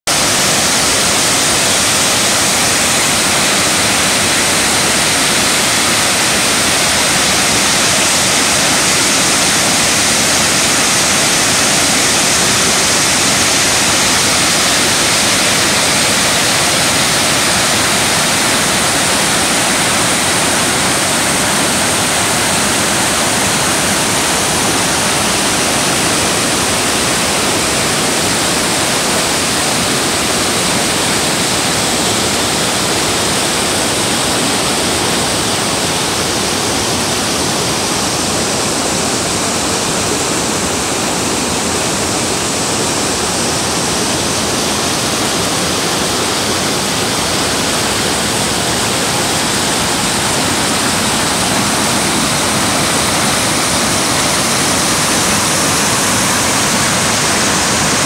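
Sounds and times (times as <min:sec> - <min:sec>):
water churning through rapids: 0:00.0 - 0:58.0
waterfall rushing onto rocks: 0:00.0 - 0:58.0.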